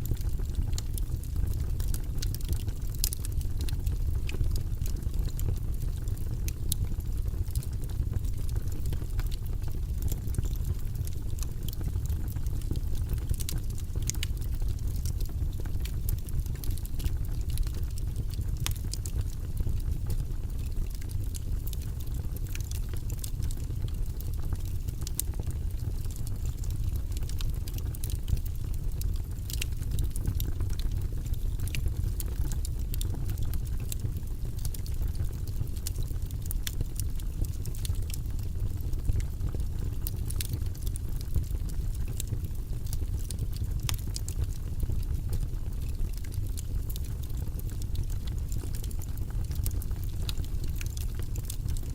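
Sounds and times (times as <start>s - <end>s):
fireplace fire crackling: 0.0s - 51.9s
low rumble of burning: 0.0s - 51.9s.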